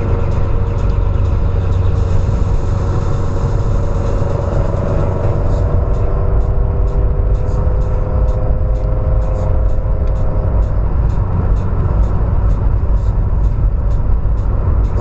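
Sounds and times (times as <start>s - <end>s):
car engine running: 0.0s - 15.0s
higher steady drone: 0.0s - 15.0s.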